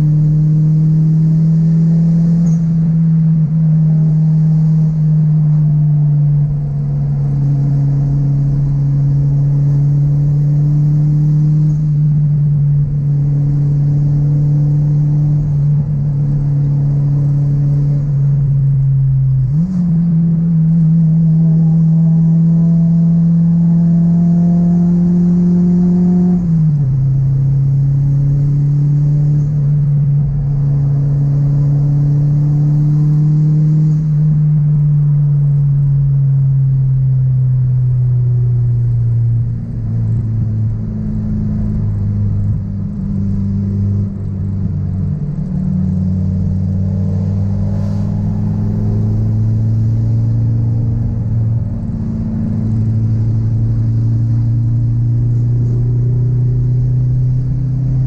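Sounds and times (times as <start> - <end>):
car engine droning: 0.0 - 58.0.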